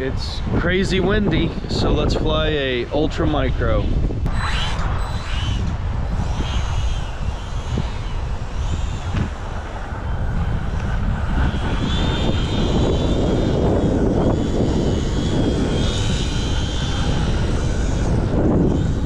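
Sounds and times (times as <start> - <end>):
electric motor and propeller whining: 0.0 - 19.0
wind buffeting microphone: 0.0 - 19.0.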